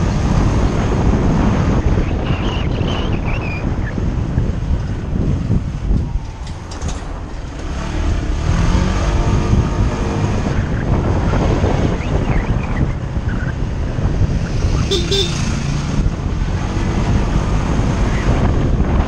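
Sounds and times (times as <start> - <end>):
vehicle engine noise: 0.0 - 19.0
wind rumbling on microphone: 0.0 - 19.0.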